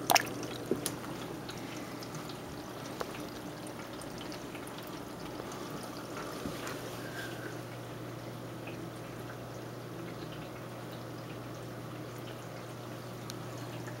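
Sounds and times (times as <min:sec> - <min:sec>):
water drips and splashes: 0:00.0 - 0:07.0, 0:07.6 - 0:14.0
aquarium water trickling: 0:00.0 - 0:14.0.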